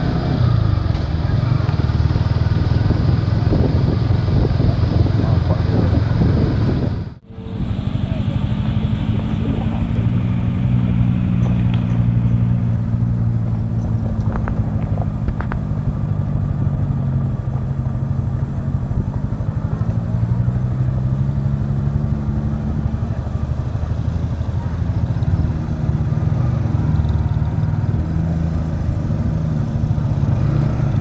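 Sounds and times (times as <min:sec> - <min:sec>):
vehicle engine running steadily: 0:00.0 - 0:31.0.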